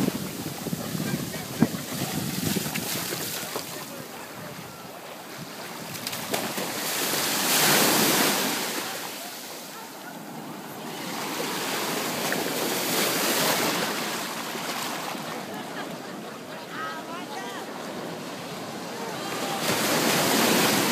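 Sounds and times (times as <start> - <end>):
ocean surf breaking: 0.0 - 20.9.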